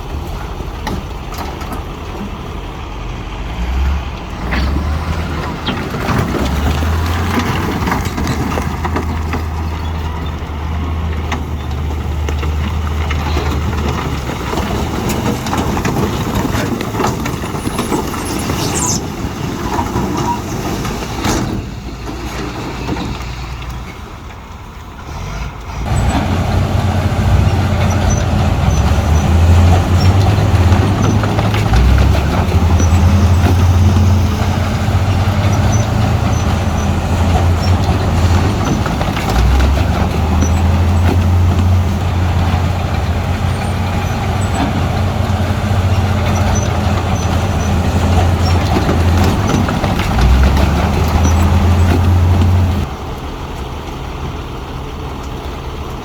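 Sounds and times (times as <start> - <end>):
earthmover diesel engine hum: 0.0 - 56.0.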